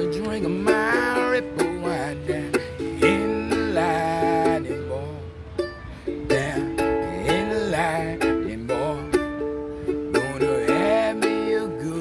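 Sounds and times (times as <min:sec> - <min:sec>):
person singing wordless melody: 0:00.0 - 0:12.0
ukulele strumming: 0:00.0 - 0:12.0.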